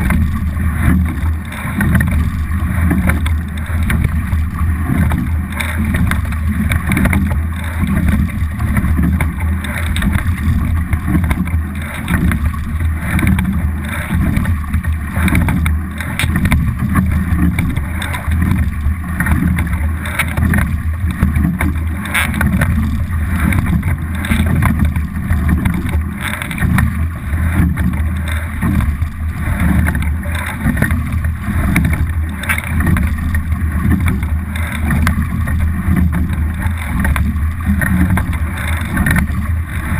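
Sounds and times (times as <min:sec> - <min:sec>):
water rushing along a hull: 0:00.0 - 0:39.9.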